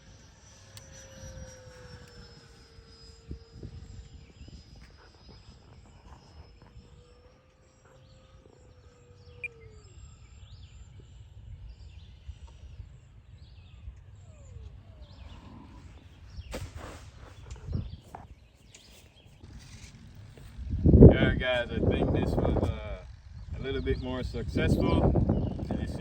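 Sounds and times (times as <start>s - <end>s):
model jet fan whine: 0.0s - 26.0s
low wind rumble: 1.1s - 7.2s, 10.4s - 18.5s, 19.3s - 26.0s.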